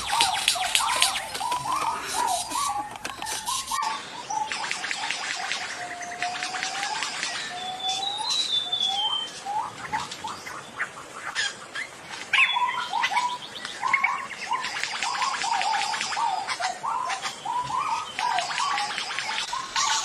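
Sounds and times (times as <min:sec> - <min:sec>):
pheasant calling: 0:00.0 - 0:04.8, 0:07.5 - 0:20.0
forest birds calling: 0:00.0 - 0:20.0.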